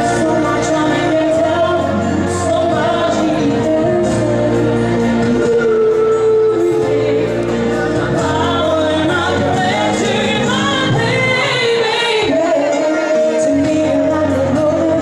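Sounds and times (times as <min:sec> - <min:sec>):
amplified backing music: 0:00.0 - 0:15.0
woman singing into microphone: 0:00.0 - 0:15.0.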